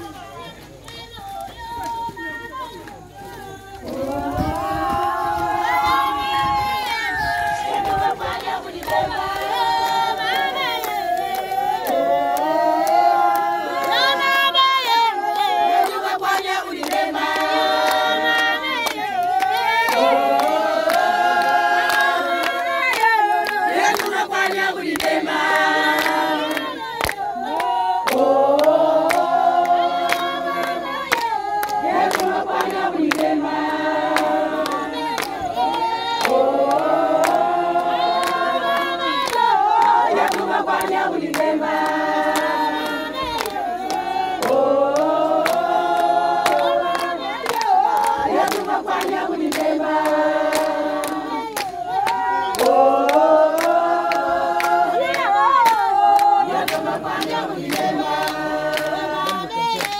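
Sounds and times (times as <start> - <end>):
rhythmic hand clapping: 0.0 - 59.9
women singing together: 0.0 - 59.9.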